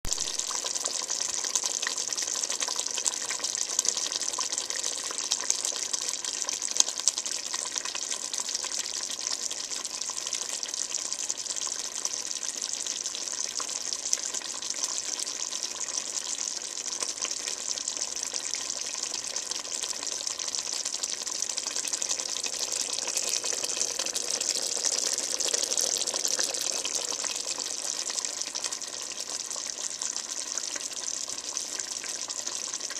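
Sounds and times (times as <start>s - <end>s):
thick sauce boiling and popping: 0.0s - 32.9s.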